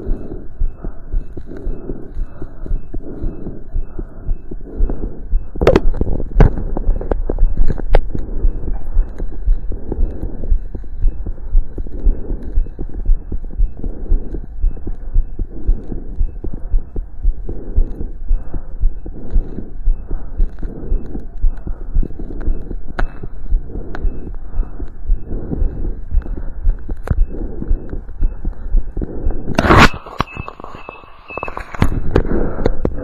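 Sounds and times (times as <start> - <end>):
heartbeat through stethoscope: 0.0 - 33.0
sharp clicks: 0.0 - 33.0.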